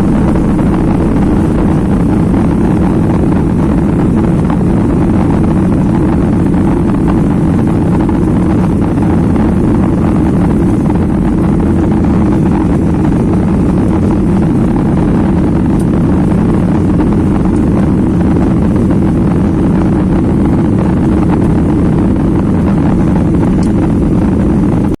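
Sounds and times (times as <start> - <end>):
jet engine noise inside cabin: 0.0 - 25.0.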